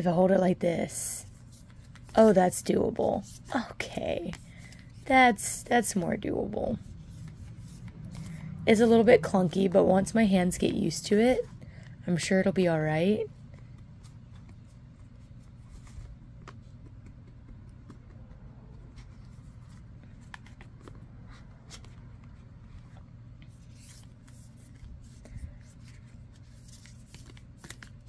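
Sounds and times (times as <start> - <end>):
steady low hum: 0.0 - 28.0
cards being shuffled by hand: 0.8 - 28.0.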